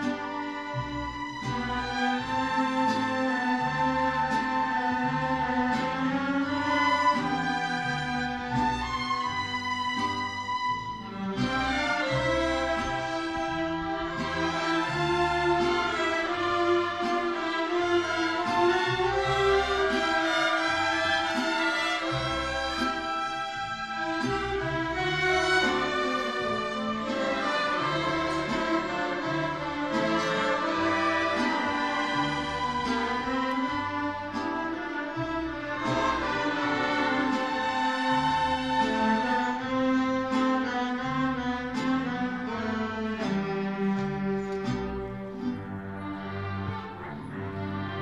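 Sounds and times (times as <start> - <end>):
bowed strings melody: 0.0 - 48.0
orchestra and mariachi ensemble playing: 0.0 - 48.0.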